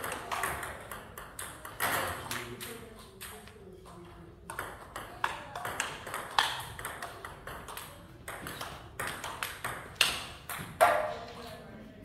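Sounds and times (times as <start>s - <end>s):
ping pong ball clicking off bats: 0.0s - 11.2s
ping pong ball bouncing on table: 0.0s - 11.3s.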